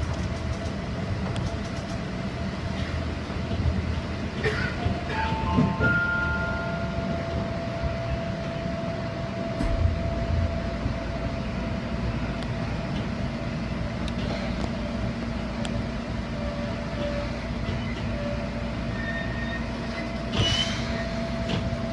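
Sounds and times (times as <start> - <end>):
train running noise: 0.0 - 21.9.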